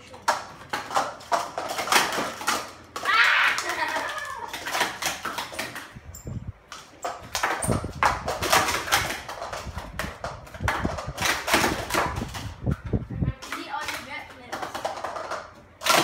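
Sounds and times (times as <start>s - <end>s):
plastic cups clacking: 0.0s - 6.0s, 6.7s - 16.0s.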